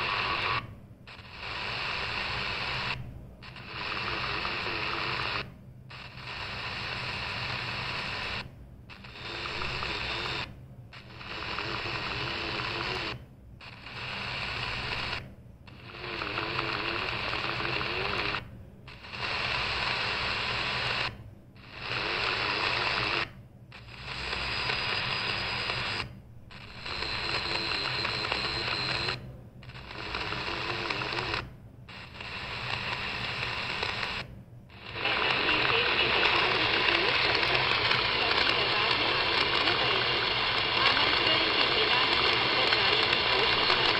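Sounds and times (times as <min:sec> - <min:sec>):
radio static hiss: 0:00.0 - 0:43.9.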